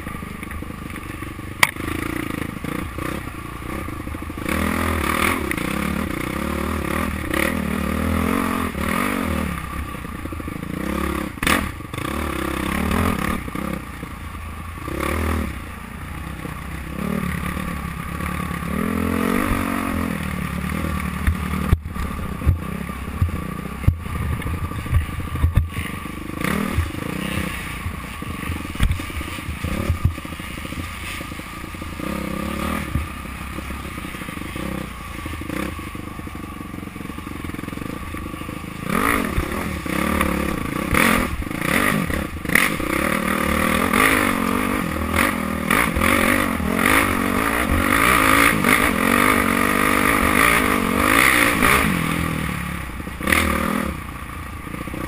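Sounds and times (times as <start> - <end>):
dirt bike engine revving: 0.0 - 55.0
knocks and rattles of bike: 0.0 - 55.0.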